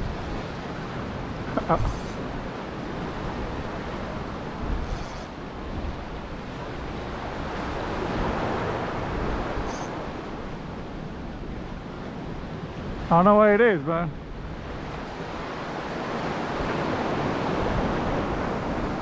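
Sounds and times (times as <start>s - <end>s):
wind on microphone: 0.0s - 13.1s, 14.1s - 19.0s
ocean surf: 0.0s - 19.0s.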